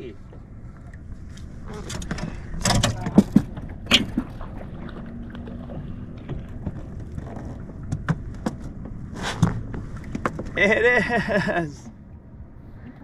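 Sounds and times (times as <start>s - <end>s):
low rumble of wind and water: 0.0s - 13.0s
knocks and clatters on boat: 0.2s - 10.9s.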